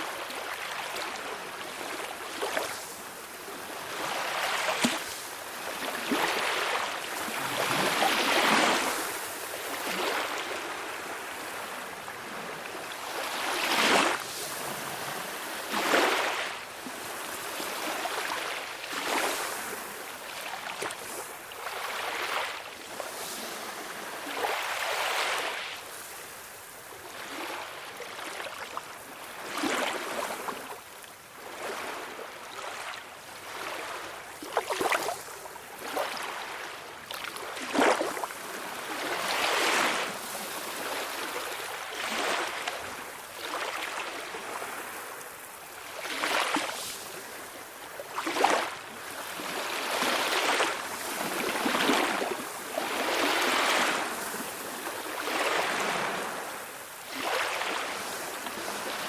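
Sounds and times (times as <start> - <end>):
small sea waves washing ashore: 0.0 - 59.0.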